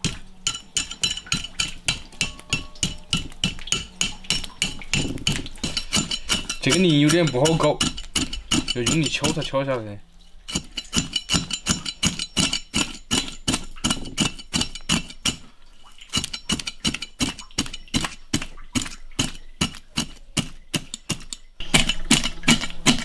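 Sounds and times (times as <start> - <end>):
cleaver scraping on wooden block: 0.0 - 9.6, 10.5 - 15.5, 16.1 - 23.0.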